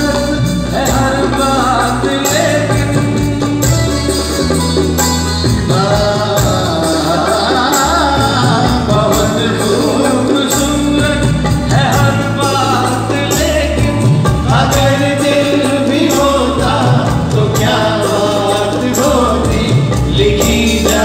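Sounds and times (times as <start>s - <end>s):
man singing: 0.0s - 4.8s, 5.4s - 21.0s
live band playing: 0.0s - 21.0s.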